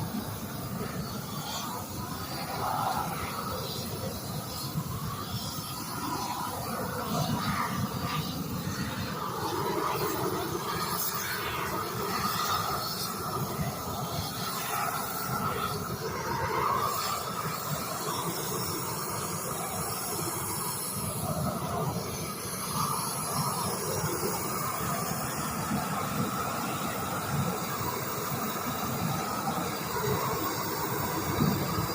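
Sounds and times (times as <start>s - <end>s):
torch flame hissing: 0.0s - 31.9s.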